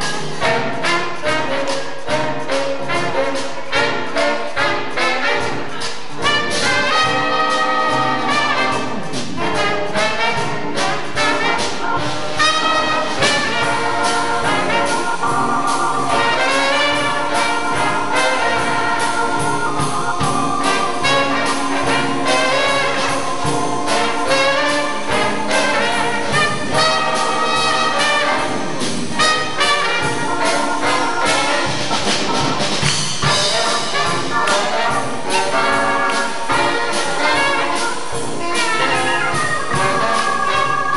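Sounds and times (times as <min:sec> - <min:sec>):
jazz horn band playing: 0:00.0 - 0:40.9.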